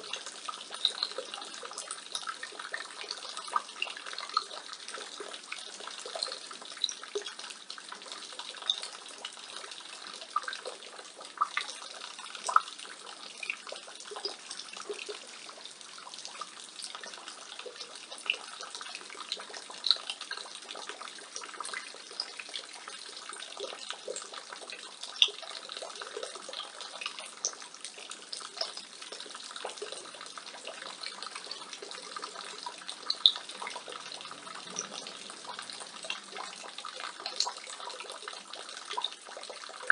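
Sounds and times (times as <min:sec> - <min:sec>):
rainwater splashing from gutter: 0:00.0 - 0:39.9
sharp drips: 0:00.0 - 0:39.9.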